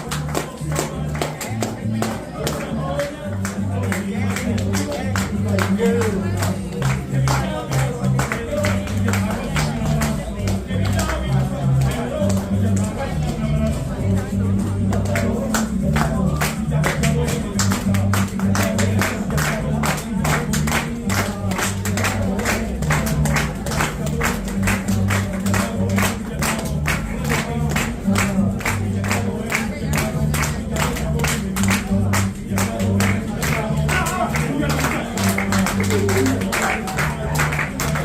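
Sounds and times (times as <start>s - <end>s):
bass line: 0.0s - 38.0s
dance music percussion beat: 0.0s - 38.0s.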